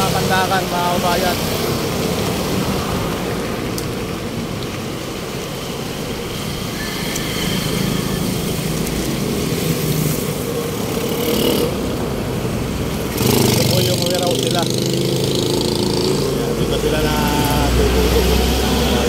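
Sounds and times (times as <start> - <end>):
road noise rush: 0.0 - 19.0
vehicle engines running: 0.0 - 19.0.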